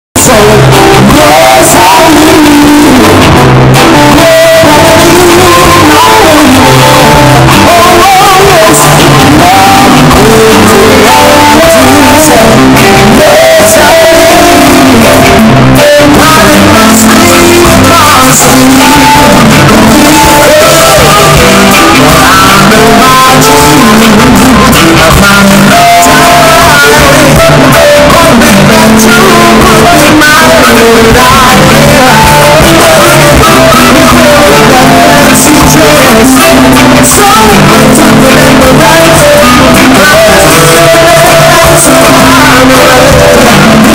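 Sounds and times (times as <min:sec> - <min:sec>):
live reggae band: 0:00.0 - 0:43.9
person singing lead vocal: 0:00.0 - 0:43.9.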